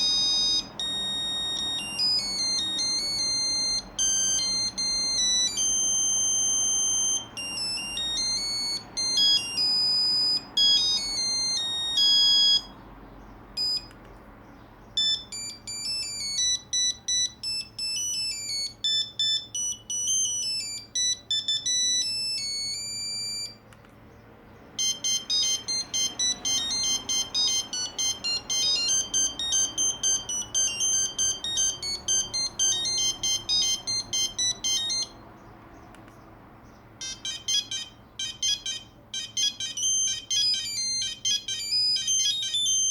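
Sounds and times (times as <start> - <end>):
monophonic beeping ringtone melodies: 0.0 - 13.9, 14.8 - 23.7, 24.6 - 35.6, 36.9 - 42.9.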